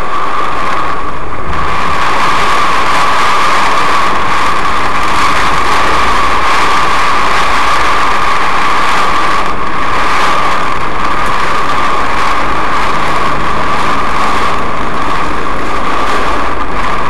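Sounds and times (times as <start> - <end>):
heavy rain beating on a car: 0.0 - 17.0
low rumble: 0.0 - 17.0
steady whine: 0.0 - 17.0.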